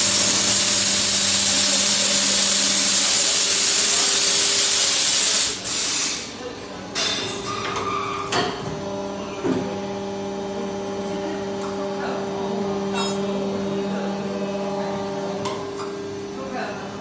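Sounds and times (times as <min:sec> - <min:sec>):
machine motor hum: 0:00.0 - 0:05.6, 0:08.7 - 0:17.0.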